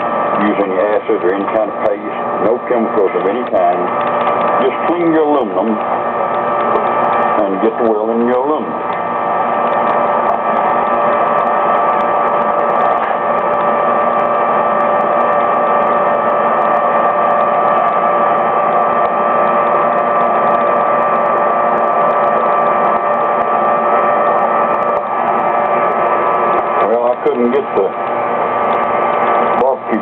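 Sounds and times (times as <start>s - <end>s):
propane burner hissing: 0.0s - 30.0s.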